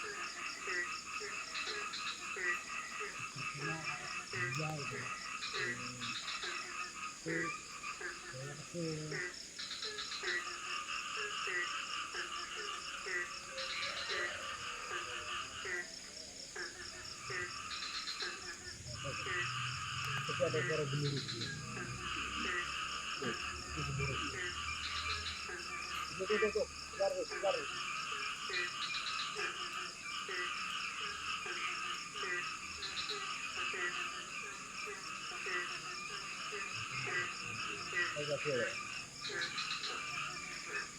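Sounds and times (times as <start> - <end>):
frogs calling: 0.0 - 40.9
insects humming: 0.0 - 40.9.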